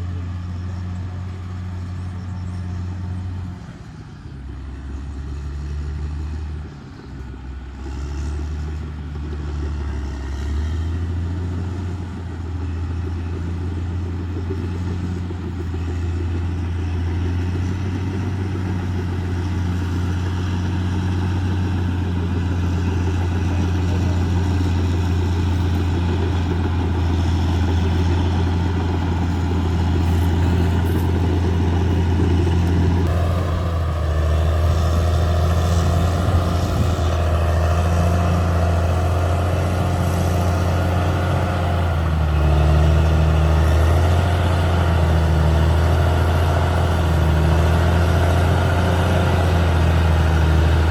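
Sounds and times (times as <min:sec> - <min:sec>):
bulldozer diesel engine: 0:00.0 - 0:50.9.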